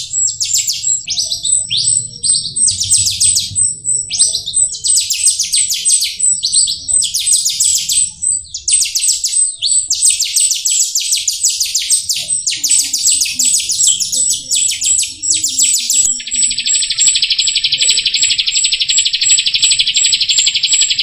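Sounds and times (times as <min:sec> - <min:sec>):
starling rattling chatter: 0:00.0 - 0:21.0.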